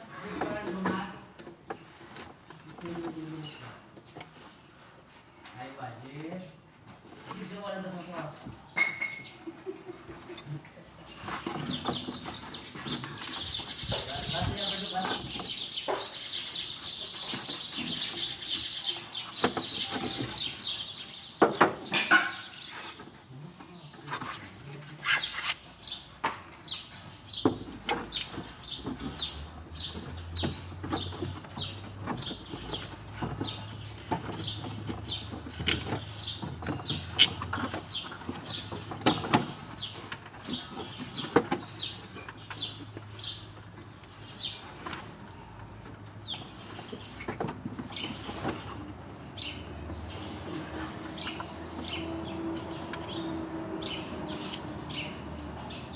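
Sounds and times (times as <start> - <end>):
small birds chirping: 0.2 - 4.9, 5.5 - 55.9.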